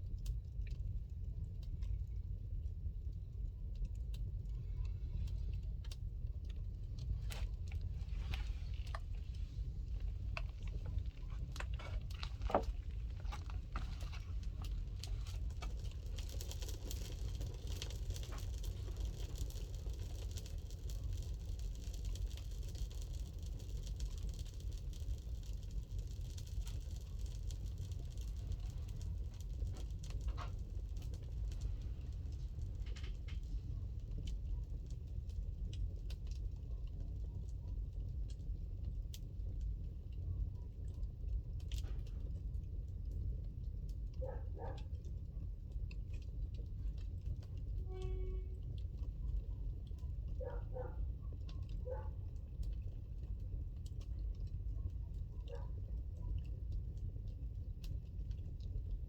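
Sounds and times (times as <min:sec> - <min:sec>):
fire crackling and popping: 0:00.0 - 0:59.0
fire low rumble: 0:00.0 - 0:59.0.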